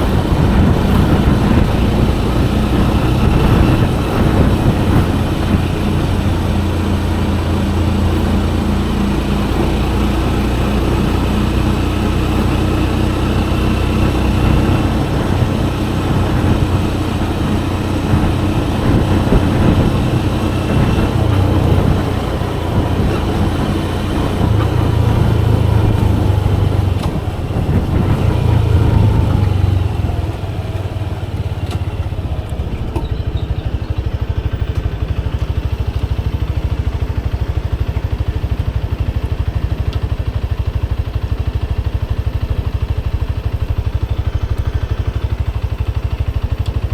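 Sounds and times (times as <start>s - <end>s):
motorcycle engine running: 0.0s - 46.9s
road and traffic noise: 0.0s - 46.9s.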